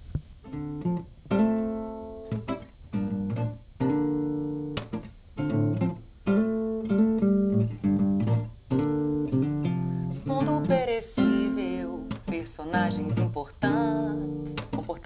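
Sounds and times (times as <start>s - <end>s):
fingerpicked acoustic guitar: 0.0s - 15.0s.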